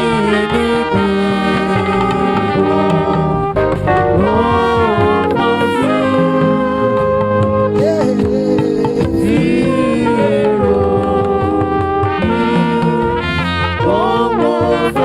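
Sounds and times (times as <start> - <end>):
band music: 0.0 - 15.0
horn playing bending melody: 0.0 - 15.0.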